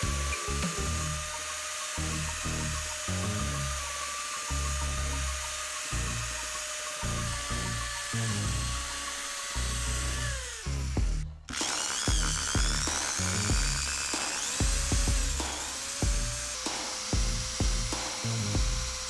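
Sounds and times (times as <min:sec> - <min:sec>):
background music with bass line: 0:00.0 - 0:19.0
power drill grinding on sandpaper: 0:00.0 - 0:19.0.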